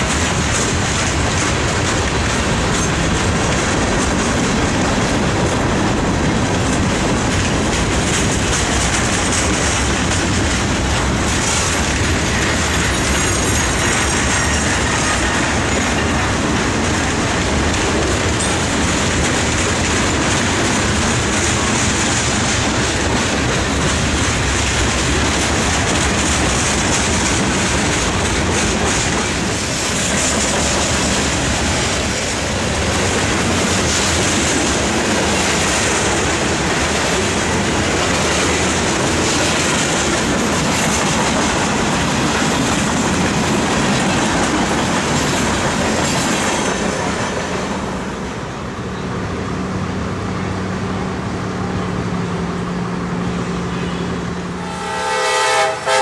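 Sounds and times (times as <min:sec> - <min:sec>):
train wheels clattering on rails: 0:00.0 - 0:54.7.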